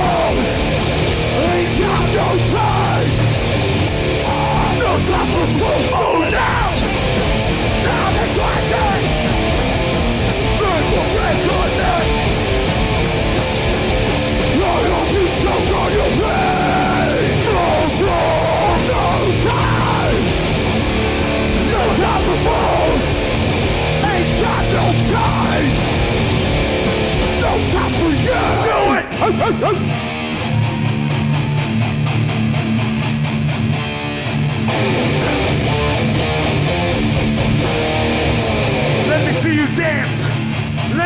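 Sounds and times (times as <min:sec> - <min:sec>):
punk band playing live: 0:00.0 - 0:41.0.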